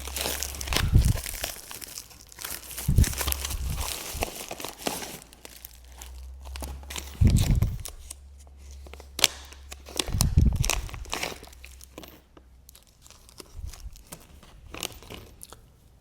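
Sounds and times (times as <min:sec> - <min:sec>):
packaging tearing and crinkling: 0:00.0 - 0:15.6.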